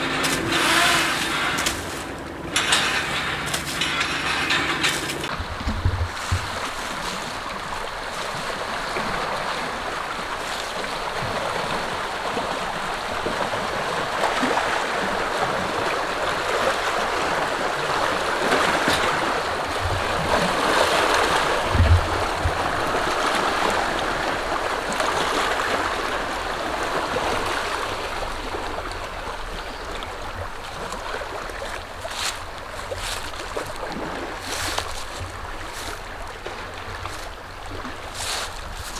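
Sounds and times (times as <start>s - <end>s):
water at a shoreline: 0.0s - 38.9s
wind: 0.0s - 38.9s.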